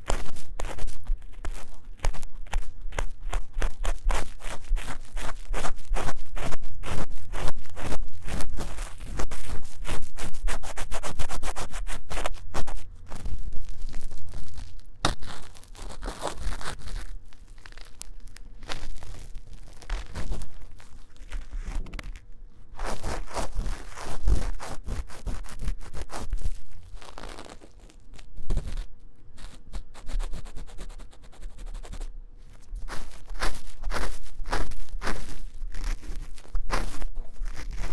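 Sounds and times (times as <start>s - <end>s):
scratching and rustling near microphone: 0.0s - 37.9s.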